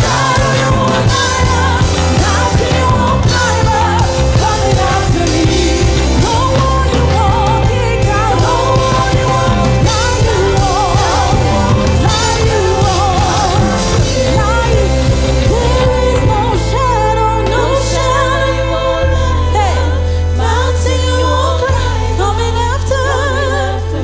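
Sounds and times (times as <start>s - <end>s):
band accompaniment: 0.0s - 20.2s
voices singing worship song: 0.0s - 24.0s.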